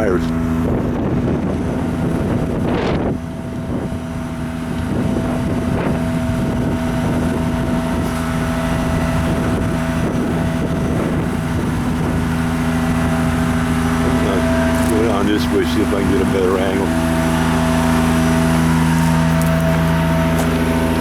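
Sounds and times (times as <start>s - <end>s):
truck engine droning: 0.0s - 21.0s
wind on microphone: 0.0s - 21.0s.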